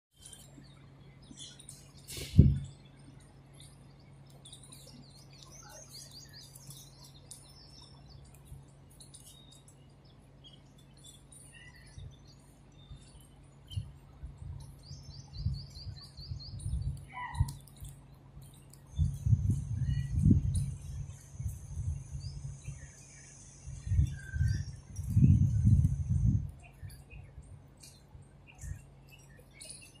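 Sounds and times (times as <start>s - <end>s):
sparrows chirping: 0.1s - 30.0s.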